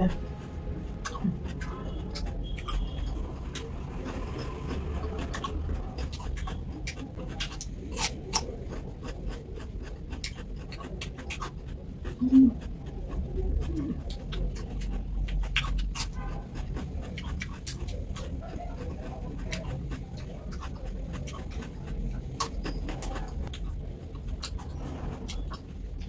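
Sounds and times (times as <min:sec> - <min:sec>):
cucumber crunching when chewed: 0:01.0 - 0:26.0.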